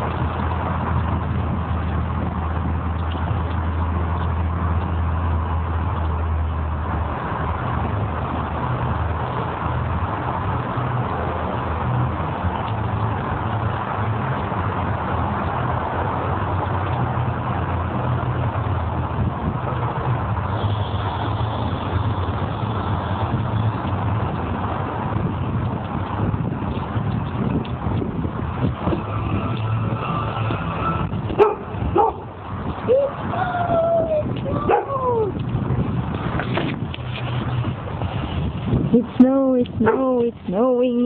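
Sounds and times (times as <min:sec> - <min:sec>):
wind blowing across microphone: 0:00.0 - 0:41.0.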